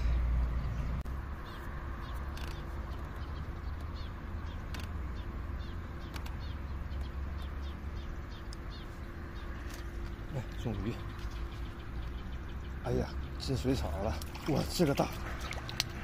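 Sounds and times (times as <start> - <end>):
bird chirping: 0.0 - 16.0
low steady rumble: 0.0 - 16.0.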